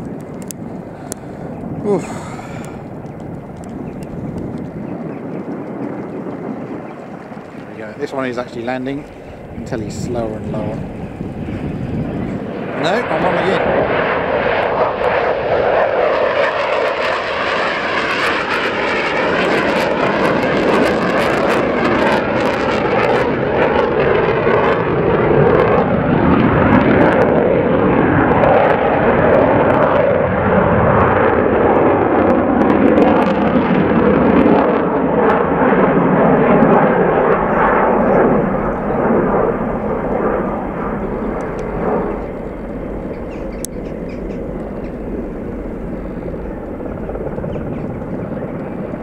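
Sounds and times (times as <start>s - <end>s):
jet fighter flying past: 0.0s - 49.0s.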